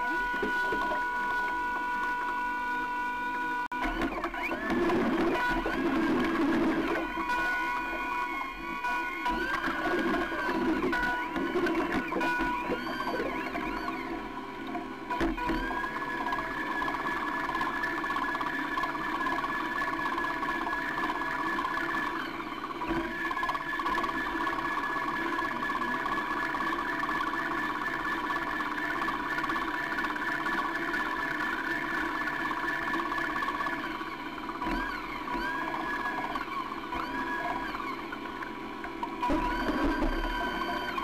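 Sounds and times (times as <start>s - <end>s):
small motor whining: 0.0s - 41.0s.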